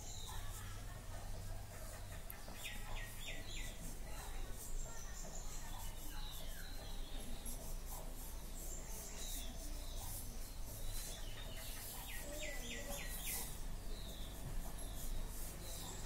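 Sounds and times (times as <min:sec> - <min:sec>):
pencil scratching on paper: 0:00.0 - 0:16.0
small birds chirping: 0:00.0 - 0:16.0.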